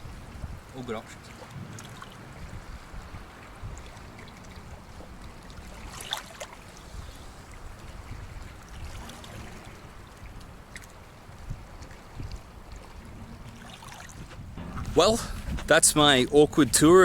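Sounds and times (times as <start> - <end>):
small waves washing on sand: 0.0 - 14.4.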